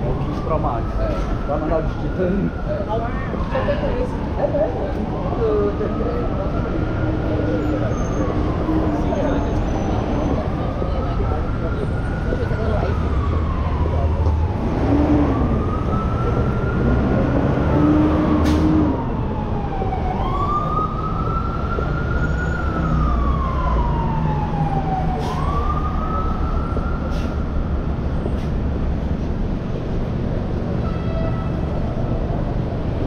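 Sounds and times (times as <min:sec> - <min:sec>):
city traffic rumble: 0:00.0 - 0:33.0
emergency vehicle siren wailing: 0:00.0 - 0:33.0.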